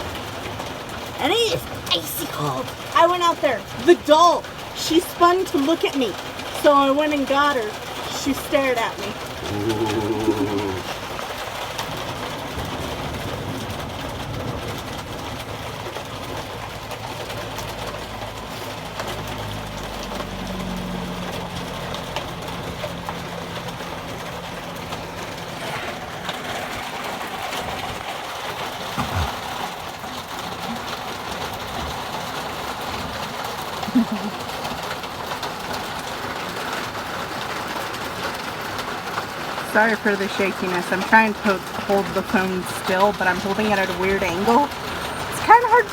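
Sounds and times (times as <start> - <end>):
heavy rain with hail: 0.0 - 45.9.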